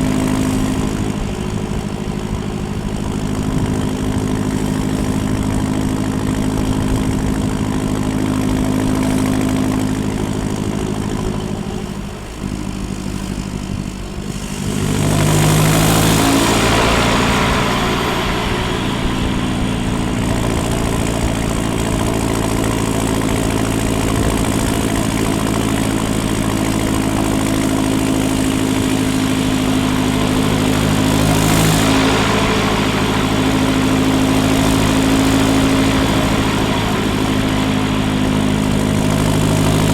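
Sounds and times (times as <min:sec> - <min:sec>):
diesel engine exhaust running: 0:00.0 - 0:39.9.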